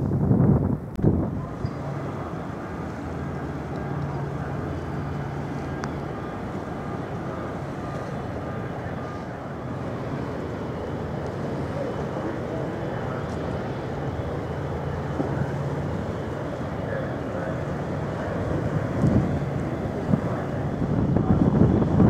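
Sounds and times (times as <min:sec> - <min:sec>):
ferry engine drone: 0:00.0 - 0:22.0
low hum: 0:00.0 - 0:22.0.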